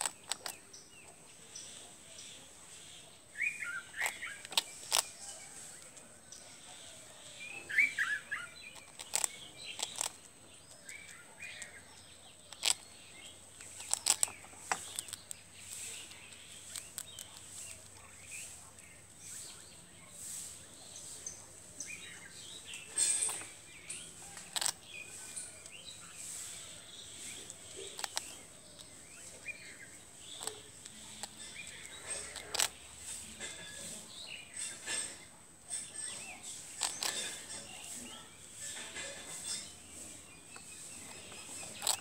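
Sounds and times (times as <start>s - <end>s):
squirrel crunching toast: 0.0s - 2.8s, 3.4s - 19.6s, 21.2s - 39.7s, 40.3s - 42.0s
small birds chirping: 0.0s - 42.0s.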